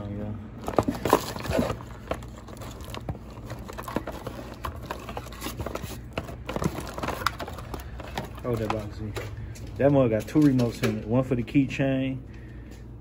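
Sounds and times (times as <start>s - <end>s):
steady low hum: 0.0s - 13.0s
plastic parts clicking and rustling: 0.6s - 11.1s.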